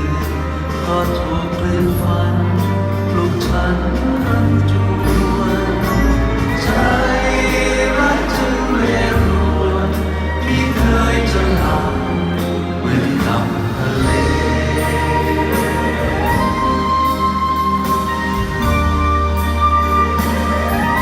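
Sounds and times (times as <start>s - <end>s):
crowd singing together: 0.0s - 18.6s
live band music: 0.0s - 21.0s.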